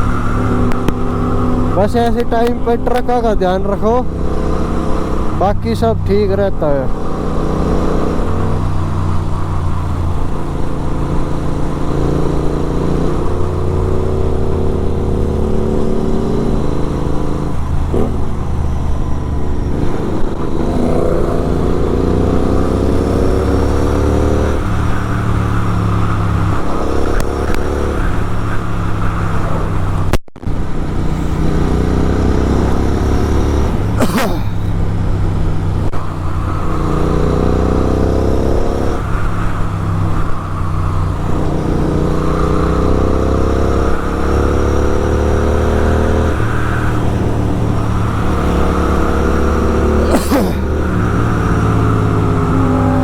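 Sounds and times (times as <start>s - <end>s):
motorcycle engine revving through gears: 0.0s - 53.0s.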